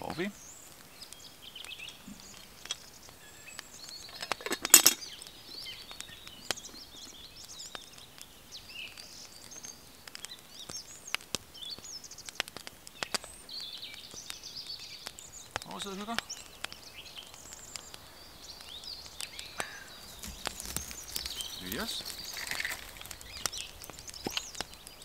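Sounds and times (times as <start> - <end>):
songbirds chirping and singing: 0.0 - 25.0
sharp clicks and crackles: 0.7 - 25.0.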